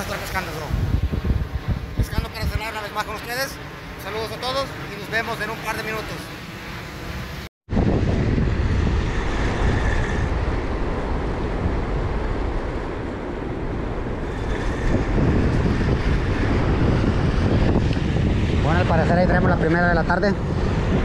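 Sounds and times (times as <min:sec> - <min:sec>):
wind buffeting microphone: 0:00.0 - 0:06.2, 0:07.1 - 0:21.0.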